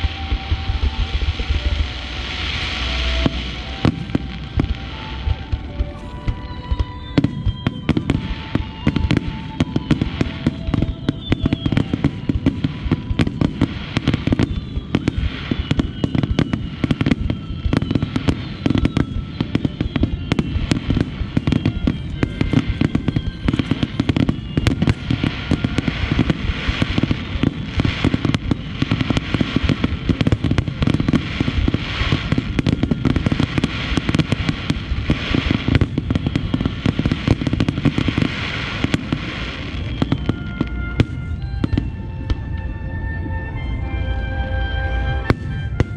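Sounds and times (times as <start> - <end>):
whistling firework shells: 0.0 - 43.8, 44.9 - 45.9
fireworks bangs and crackles: 0.0 - 45.9.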